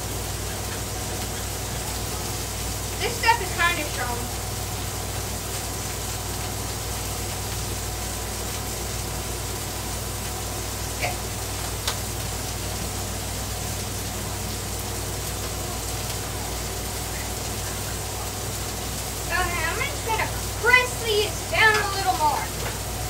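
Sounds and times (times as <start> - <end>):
burger patties sizzling on griddle: 0.0 - 23.0.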